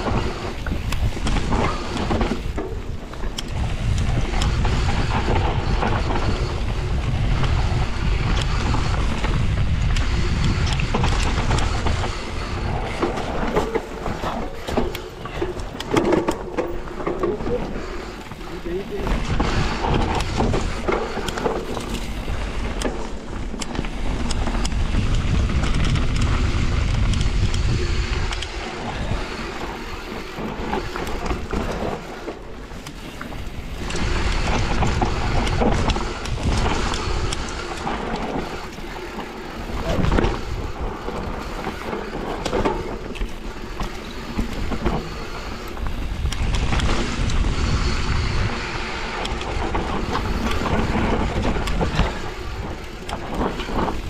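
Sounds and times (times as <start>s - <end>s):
bike clattering over bumps: 0.0s - 54.0s
wind on microphone: 0.0s - 54.0s.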